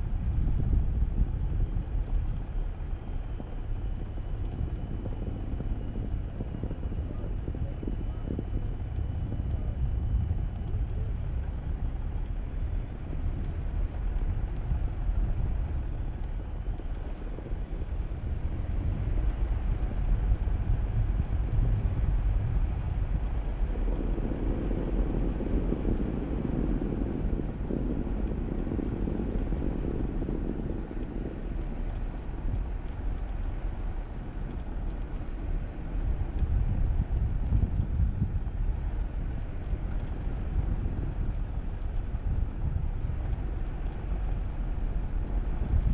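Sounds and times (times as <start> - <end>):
engine and tyres rumbling on snow: 0.0 - 45.9.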